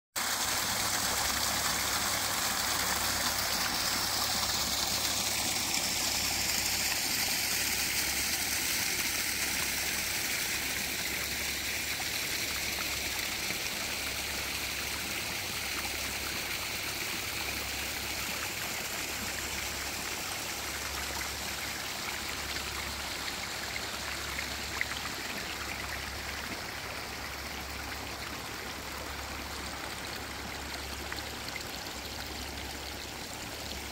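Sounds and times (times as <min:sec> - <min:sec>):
waterfall splashing over rocks: 0:00.2 - 0:33.9.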